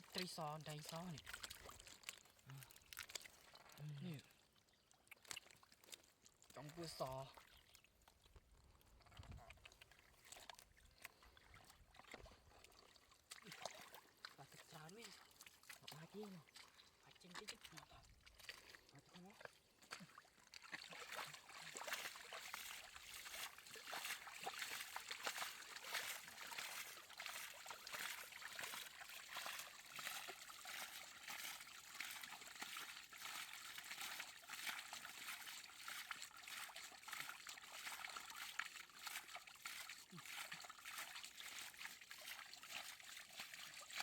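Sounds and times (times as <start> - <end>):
water trickling and splashing: 0.0 - 44.0.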